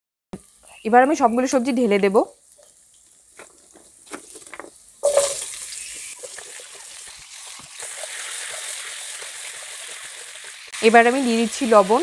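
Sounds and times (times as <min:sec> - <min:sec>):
vegetables sizzling in hot oil: 0:00.4 - 0:12.0.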